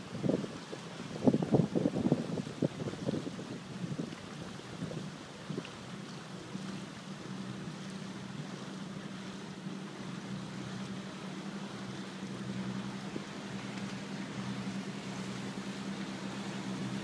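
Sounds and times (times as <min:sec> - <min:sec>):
boat engine droning: 0:00.0 - 0:17.0
water noise: 0:00.0 - 0:17.0
wind: 0:00.0 - 0:17.0.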